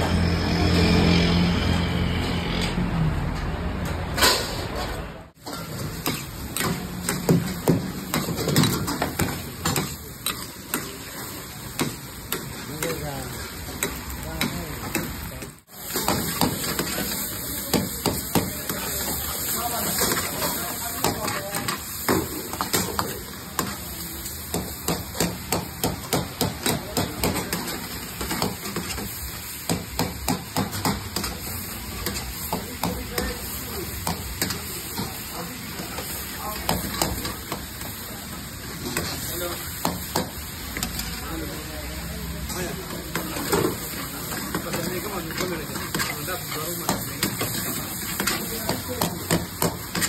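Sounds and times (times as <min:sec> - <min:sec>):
food sizzling: 0:05.4 - 0:50.0.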